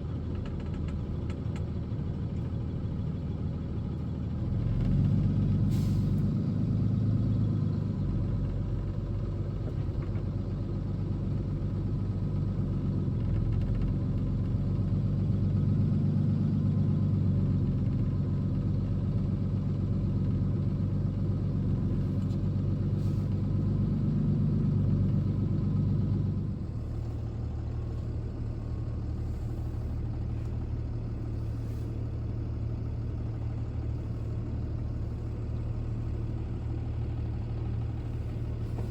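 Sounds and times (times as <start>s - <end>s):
truck engine rumble: 0.0s - 38.9s.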